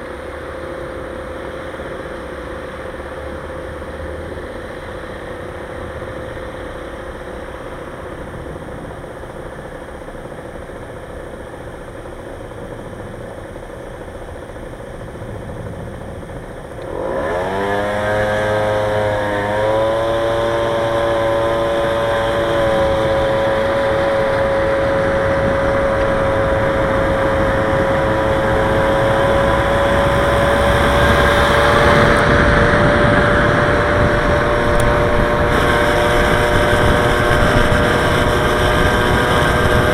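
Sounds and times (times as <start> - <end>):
motorcycle engine: 0.0 - 39.9
wind noise: 7.5 - 39.9.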